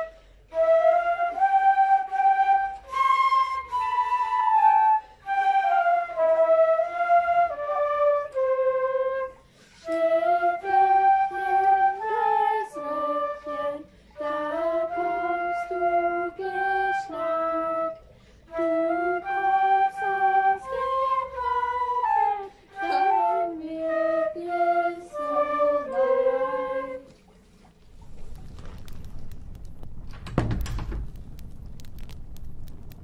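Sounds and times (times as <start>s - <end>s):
flutes playing slow melody: 0.0s - 27.1s.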